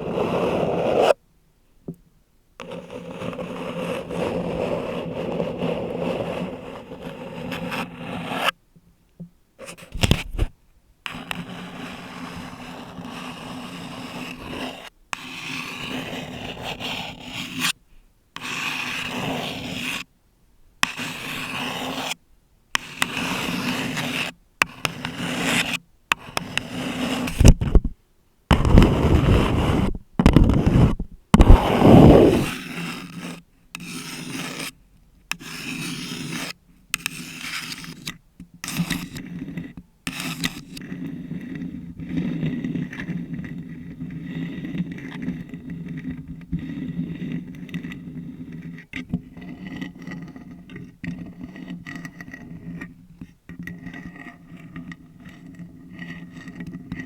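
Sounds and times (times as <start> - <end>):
nails scratching on a cup and microphone: 0.0 - 1.2, 2.6 - 8.6, 9.6 - 17.8, 18.4 - 20.1, 20.8 - 22.2, 22.8 - 57.0.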